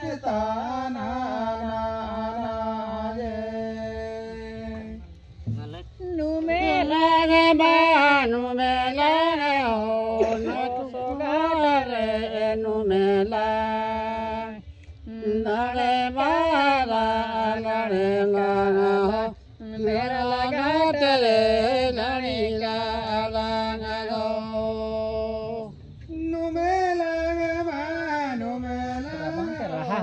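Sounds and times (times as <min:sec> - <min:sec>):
voices chanting a worship song: 0:00.0 - 0:30.0.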